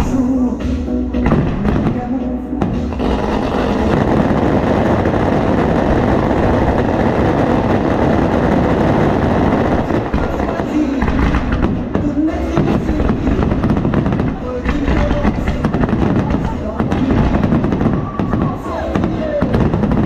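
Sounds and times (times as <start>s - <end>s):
fireworks crackling and banging: 1.2s - 20.0s.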